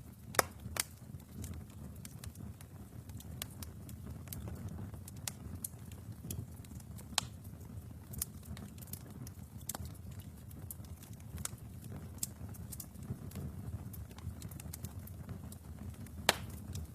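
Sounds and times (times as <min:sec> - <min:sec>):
wood fire crackling in fireplace: 0:00.0 - 0:16.9.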